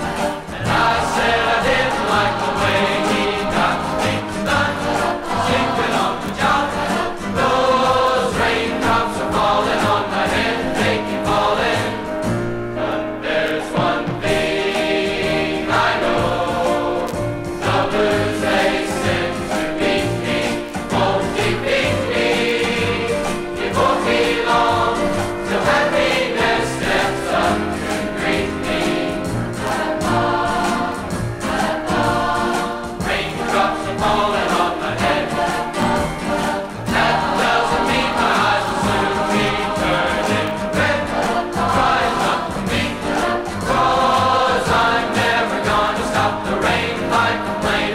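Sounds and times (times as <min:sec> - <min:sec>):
choir singing: 0:00.0 - 0:47.9
instrumental accompaniment with bass beat: 0:00.0 - 0:47.9.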